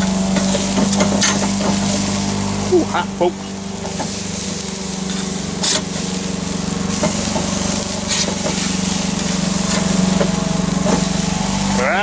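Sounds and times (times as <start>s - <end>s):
burger patties sizzling on grill: 0.0s - 12.0s
lawn mower engine running: 0.0s - 12.0s.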